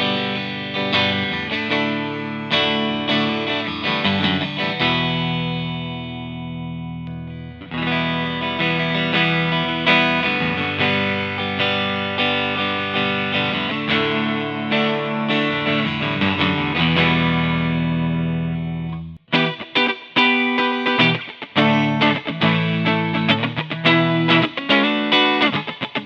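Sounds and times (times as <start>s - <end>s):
electric guitar through amplifier: 0.0s - 26.0s.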